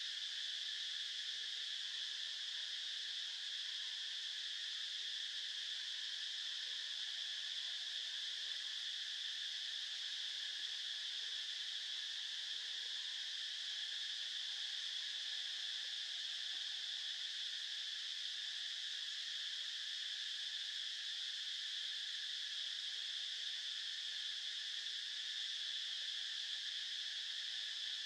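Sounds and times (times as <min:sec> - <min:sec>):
insect chorus drone: 0:00.0 - 0:28.0.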